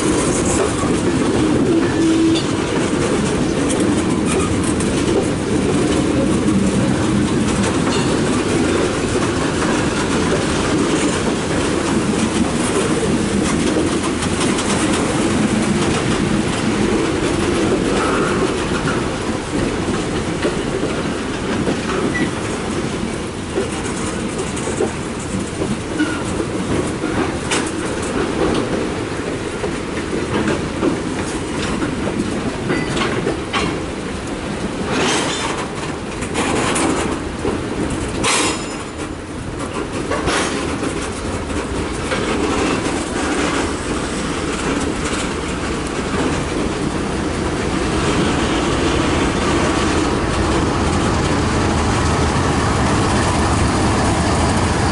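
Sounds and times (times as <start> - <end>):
clickety-clack over rail joints: 0.0 - 54.9
train wheels rumbling on rails: 0.0 - 54.9.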